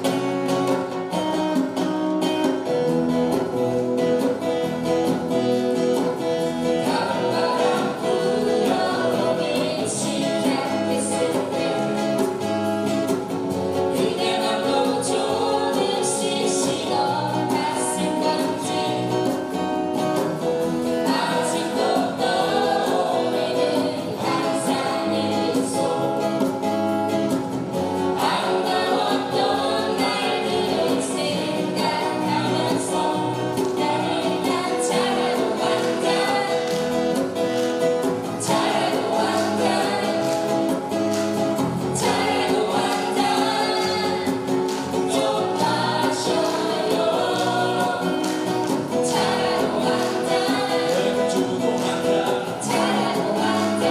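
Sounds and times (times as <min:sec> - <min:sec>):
acoustic guitars: 0:00.0 - 0:53.9
electric bass: 0:00.0 - 0:53.9
voices singing together: 0:05.0 - 0:53.9.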